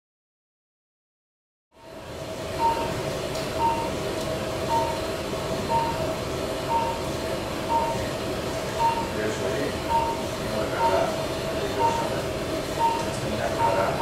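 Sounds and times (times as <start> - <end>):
machine hum: 1.8 - 14.0
monitor beeping: 1.8 - 14.0.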